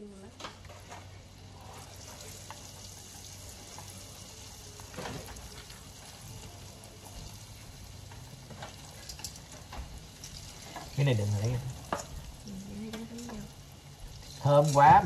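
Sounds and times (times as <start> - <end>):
oil sizzling hiss: 0.6 - 15.0.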